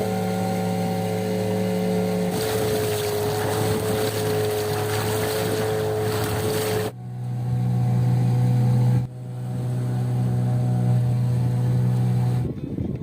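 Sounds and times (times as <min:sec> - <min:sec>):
motorboat engine humming: 0:00.0 - 0:13.0.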